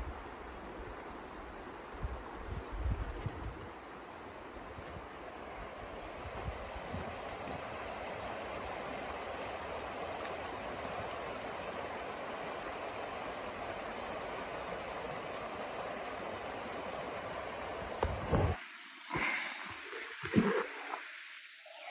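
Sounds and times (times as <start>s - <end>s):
river flowing over rocks: 3.7s - 21.9s.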